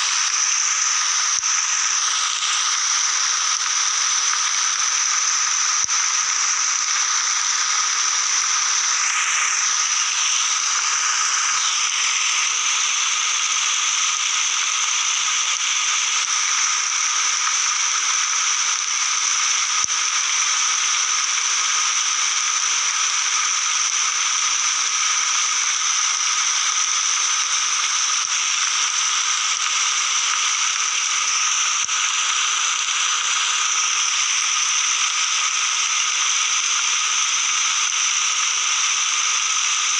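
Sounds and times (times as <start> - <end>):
frog and insect chorus: 0.0 - 39.9
rain hiss: 0.0 - 39.9.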